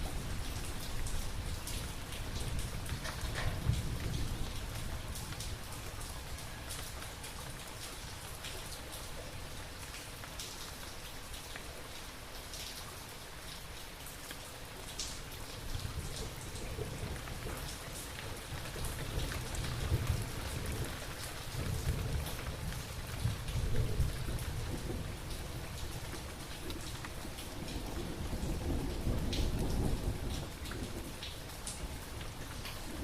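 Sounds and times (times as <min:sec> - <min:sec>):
raindrops pattering: 0:00.0 - 0:33.0.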